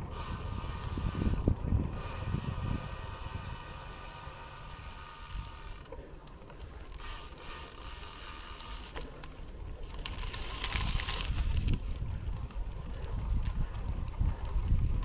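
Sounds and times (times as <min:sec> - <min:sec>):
bicycle freewheel ticking: 0:00.0 - 0:15.0.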